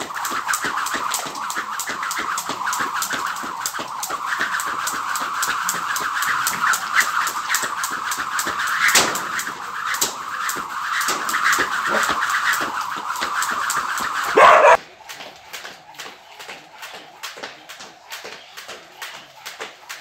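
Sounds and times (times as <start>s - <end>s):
jump rope slapping the floor: 0.0s - 20.0s.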